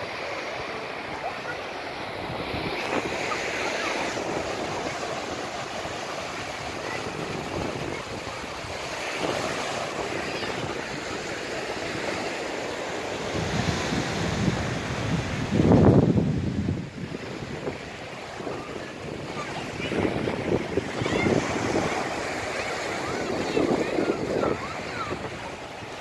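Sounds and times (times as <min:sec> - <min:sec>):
small waves washing on shore: 0:00.0 - 0:26.0
wind buffeting microphone: 0:02.1 - 0:12.2, 0:13.1 - 0:26.0.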